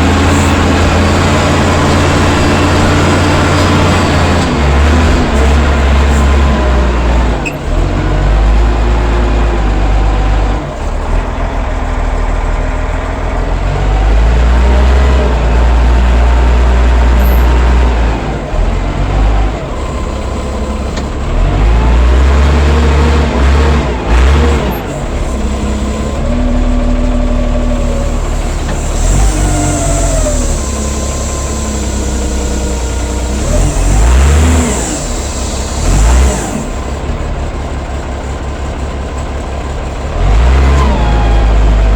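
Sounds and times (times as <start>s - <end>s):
diesel engine revving: 0.0s - 41.9s.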